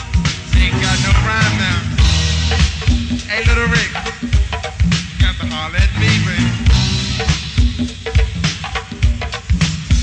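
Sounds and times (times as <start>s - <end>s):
live funk band playing: 0.0s - 10.0s.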